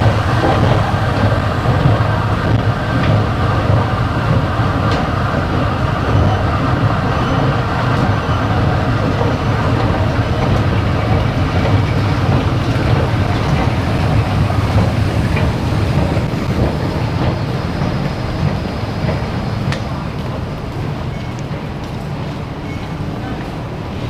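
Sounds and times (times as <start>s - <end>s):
train running at speed: 0.0s - 24.0s.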